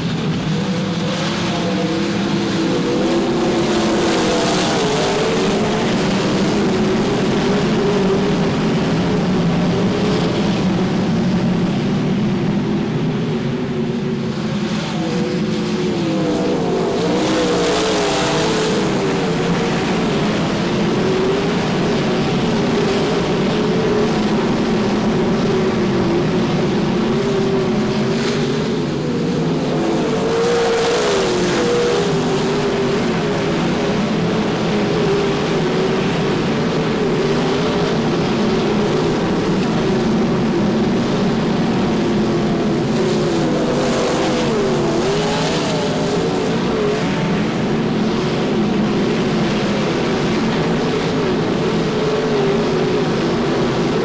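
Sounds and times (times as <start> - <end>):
racing car engines droning: 0.0 - 54.0.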